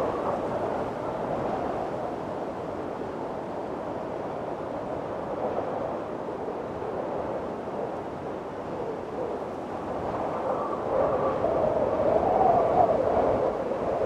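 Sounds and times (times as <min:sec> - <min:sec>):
strong wind blowing: 0:00.0 - 0:14.0.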